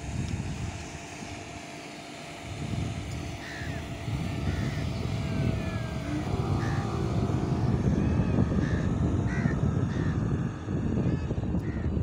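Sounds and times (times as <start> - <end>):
wind buffeting microphone: 0.0 - 1.6, 2.3 - 12.0
faint speedboat engine hum: 0.0 - 12.0.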